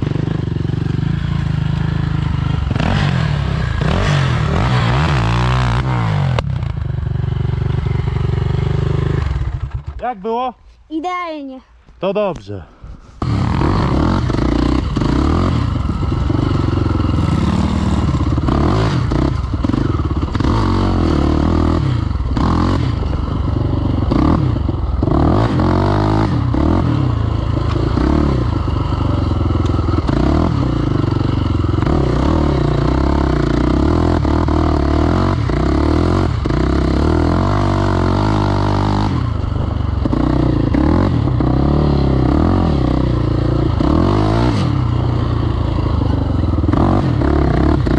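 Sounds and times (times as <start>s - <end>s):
quad engine revving: 0.0s - 9.9s, 13.2s - 47.9s.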